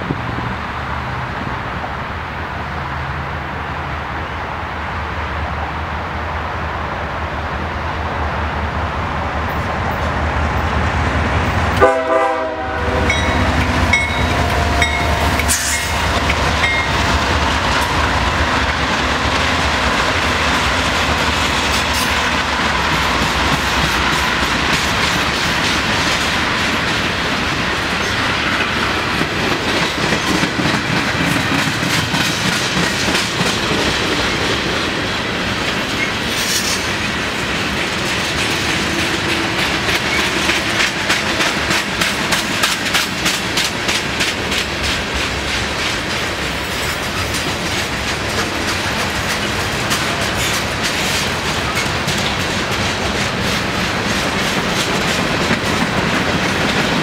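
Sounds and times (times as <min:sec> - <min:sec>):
diesel locomotive engine rumble: 0:00.0 - 0:57.0
clickety-clack of wheels on rail joints: 0:07.4 - 0:57.0.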